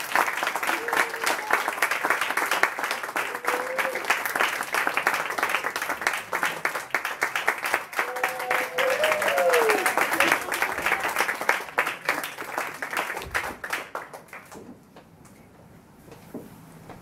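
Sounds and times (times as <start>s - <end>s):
children applauding: 0.0s - 14.6s.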